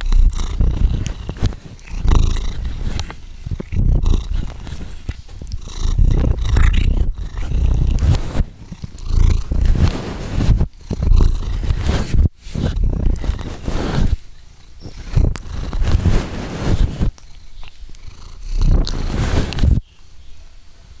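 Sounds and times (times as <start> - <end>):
wet mouth clicks: 0.0 - 16.0, 16.8 - 19.8
cat purring: 0.0 - 19.8.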